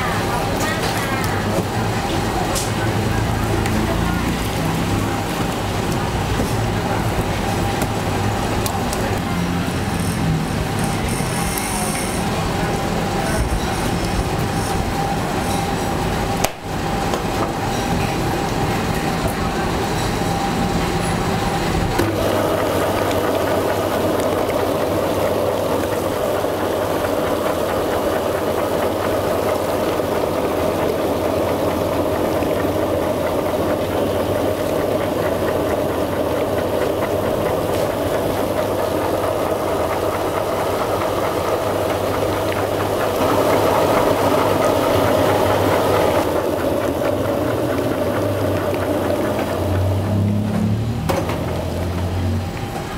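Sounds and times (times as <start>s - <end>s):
meat mincer motor humming: 0.0s - 52.9s.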